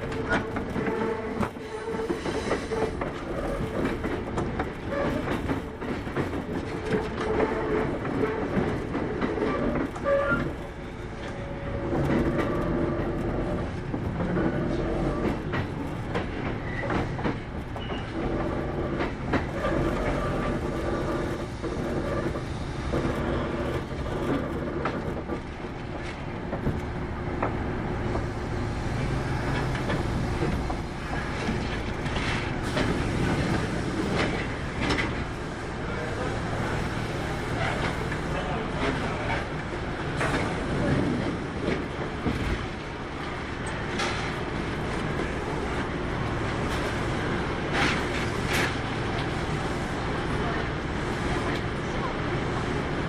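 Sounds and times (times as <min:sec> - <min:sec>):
train running noise and motor hum: 0:00.0 - 0:53.0.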